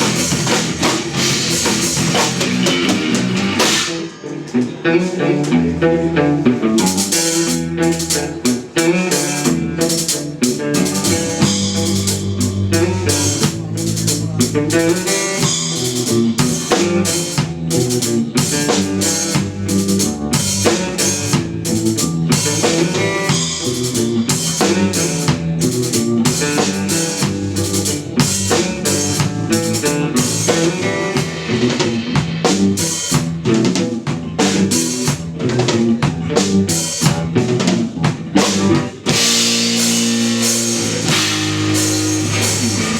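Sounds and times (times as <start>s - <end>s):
drum kit with snare and rimshots: 0.0s - 42.9s
electric bass notes: 0.0s - 42.9s
electric guitar notes: 0.0s - 42.9s.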